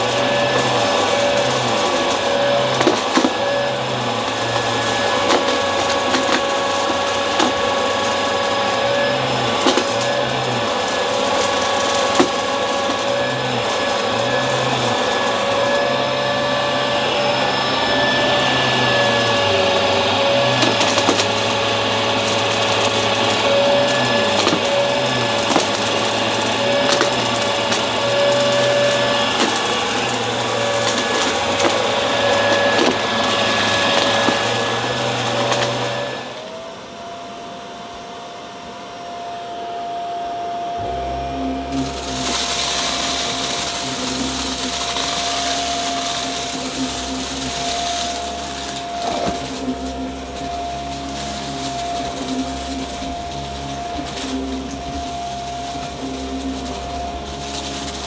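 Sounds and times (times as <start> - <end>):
debris crunching and crackling: 0.0 - 36.4, 40.8 - 58.0
vacuum cleaner motor whine: 0.0 - 58.0.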